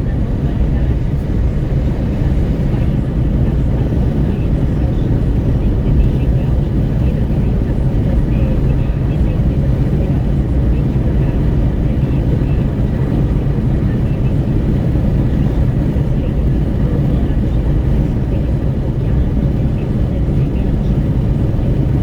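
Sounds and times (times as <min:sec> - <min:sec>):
road noise: 0:00.0 - 0:22.0
wind buffeting at car window: 0:00.0 - 0:22.0.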